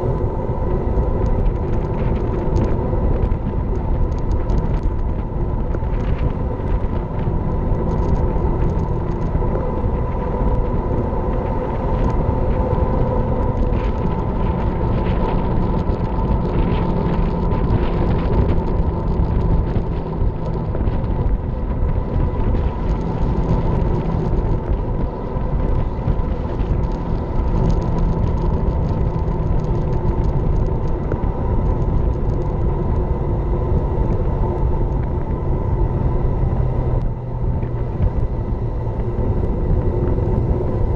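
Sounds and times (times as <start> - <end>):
bike tyre rumble: 0.0 - 40.9
wind rush: 0.0 - 40.9.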